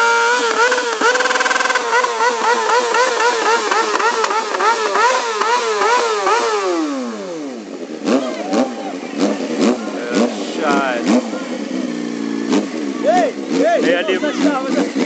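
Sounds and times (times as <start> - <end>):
engine cracks and blips: 0.0 - 15.0
motorcycle engine revving hard: 0.0 - 15.0.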